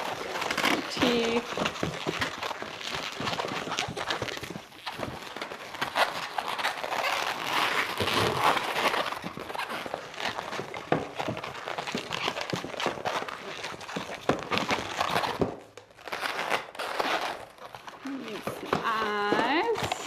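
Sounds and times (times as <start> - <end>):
balloon squeaking and creaking: 0.0 - 20.0.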